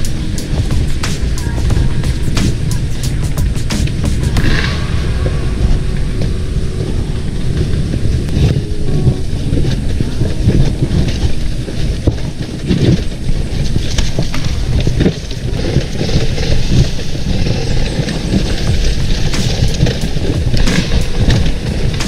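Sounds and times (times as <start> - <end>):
dirt bike engine: 0.0 - 22.0
wind rumble on microphone: 0.0 - 22.0.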